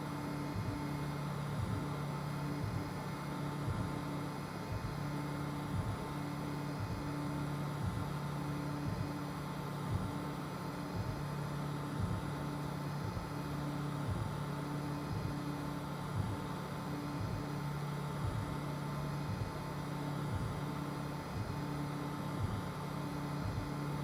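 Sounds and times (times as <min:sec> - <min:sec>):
cooling fans whirring: 0:00.0 - 0:24.0
stepper motors humming: 0:00.0 - 0:24.0.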